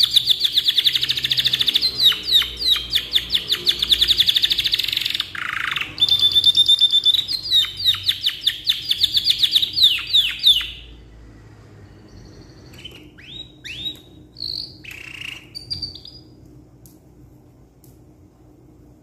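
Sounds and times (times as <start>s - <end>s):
canary singing: 0.0s - 11.1s, 11.8s - 16.4s.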